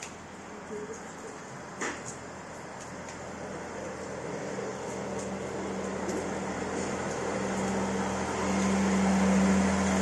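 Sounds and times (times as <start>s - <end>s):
diesel train engine drone: 0.0s - 10.0s.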